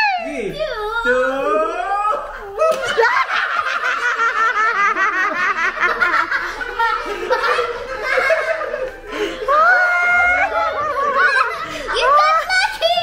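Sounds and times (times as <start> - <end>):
child's high laughter: 2.1 - 13.0
people laughing hard: 2.1 - 13.0.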